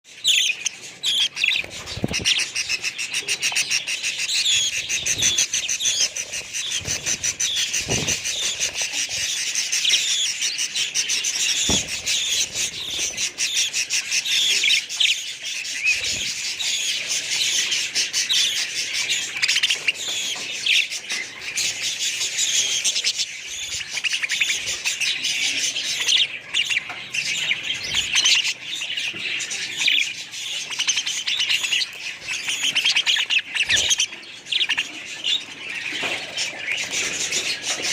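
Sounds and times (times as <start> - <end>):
budgerigars chattering: 0.1 - 37.9.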